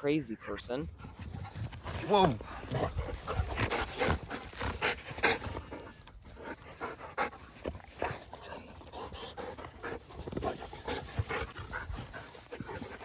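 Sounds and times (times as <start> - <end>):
dog panting: 0.5 - 13.0.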